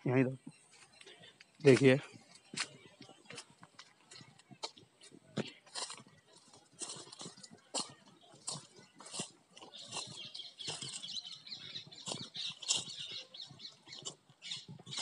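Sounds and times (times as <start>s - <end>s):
footsteps on dry grass and leaves: 0.5s - 15.0s
dry vegetation rustling: 0.7s - 15.0s.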